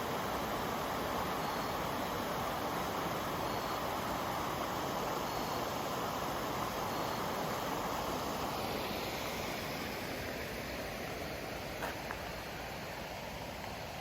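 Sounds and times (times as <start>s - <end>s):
creek water flowing over rocks: 0.0s - 14.0s.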